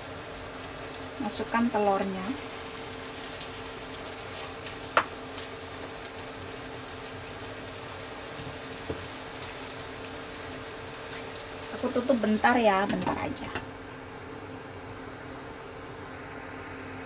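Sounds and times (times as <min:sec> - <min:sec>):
sauce sizzling in a wok: 0:00.0 - 0:14.8
faint steady hum: 0:00.0 - 0:17.0.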